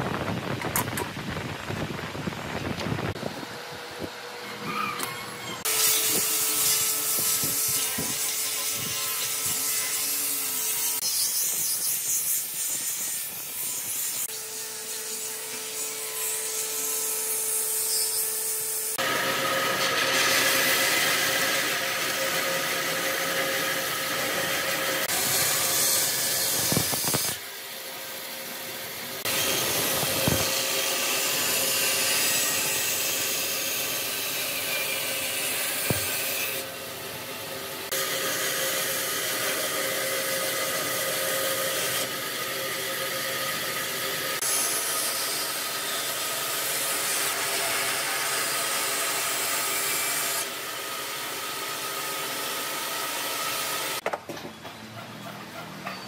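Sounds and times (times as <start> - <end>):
angle grinder sanding wood: 4.5 - 27.4, 29.0 - 54.0
bandsaw cutting wood: 4.7 - 27.4, 29.2 - 36.7, 37.6 - 54.0.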